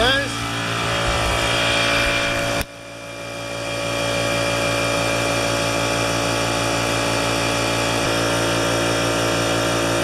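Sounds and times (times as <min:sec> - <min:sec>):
air compressor running: 0:00.0 - 0:10.0.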